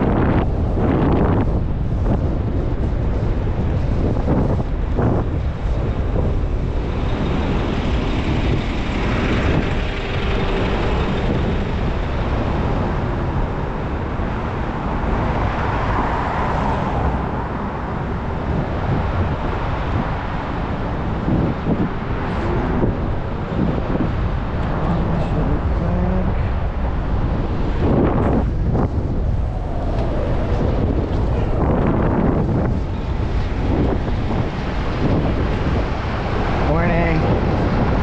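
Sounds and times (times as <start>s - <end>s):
road and traffic noise: 0.0s - 38.0s
wind rushing over microphone: 0.0s - 38.0s.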